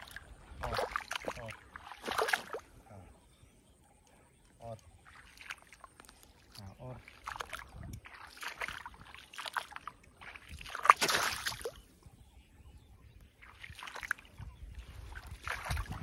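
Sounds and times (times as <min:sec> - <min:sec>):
water splashing and sloshing: 0:00.0 - 0:03.2, 0:04.1 - 0:12.3, 0:13.0 - 0:16.0.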